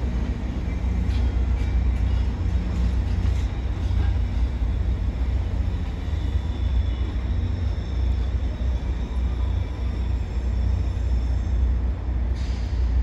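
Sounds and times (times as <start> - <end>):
train cars rolling on tracks: 0.0 - 13.0.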